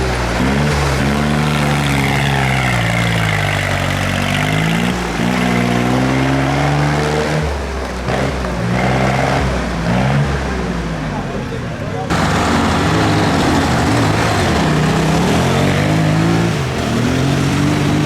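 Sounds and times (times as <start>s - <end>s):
tractor engines revving: 0.0s - 18.0s.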